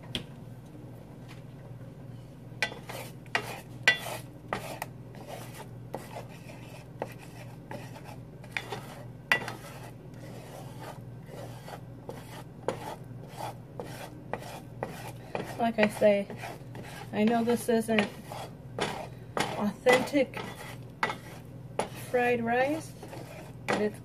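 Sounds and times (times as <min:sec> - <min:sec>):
steady low hum: 0:00.0 - 0:24.0
wooden spatula scraping frying pan: 0:02.6 - 0:24.0.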